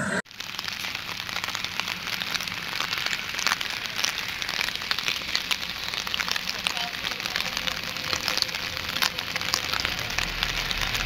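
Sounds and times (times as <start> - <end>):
steady rain: 0.3 - 11.0.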